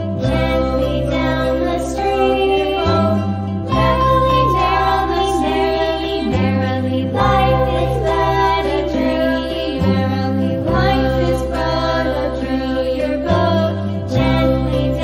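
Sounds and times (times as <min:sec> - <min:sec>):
children's song with singing: 0:00.0 - 0:15.0
sustained bass notes: 0:00.0 - 0:15.0.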